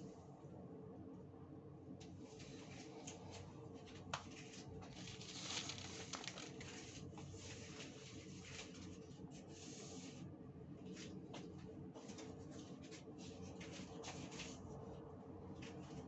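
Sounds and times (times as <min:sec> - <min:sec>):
faint steady hum: 0:00.0 - 0:16.0
paper towel rustling and rubbing: 0:02.2 - 0:16.0.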